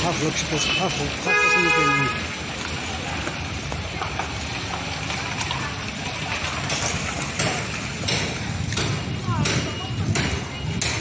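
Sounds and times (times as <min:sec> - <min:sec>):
vehicles driving on wet gravel: 0:00.0 - 0:11.0.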